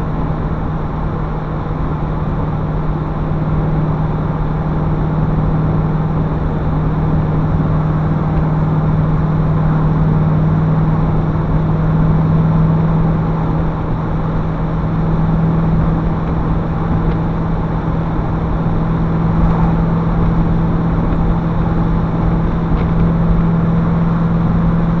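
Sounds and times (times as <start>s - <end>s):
car engine droning: 0.0s - 25.0s
tyre and road noise: 4.2s - 25.0s.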